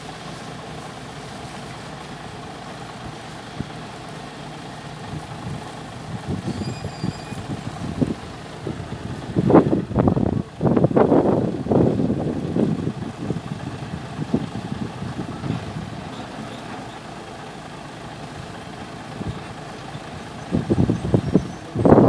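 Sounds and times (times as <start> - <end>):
loud irregular noise bursts: 0.0 - 22.0
truck engine running: 0.0 - 22.0.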